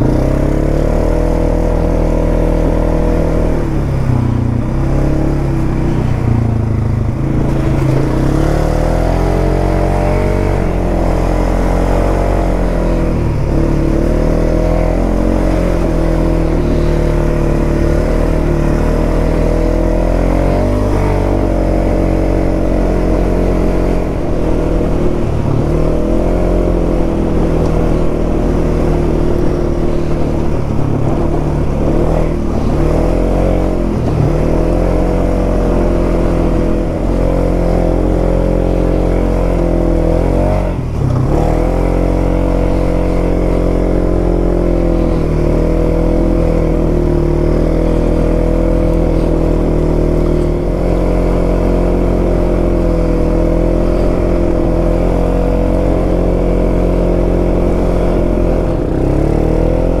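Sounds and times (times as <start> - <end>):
single-cylinder engine running: 0.0 - 60.0.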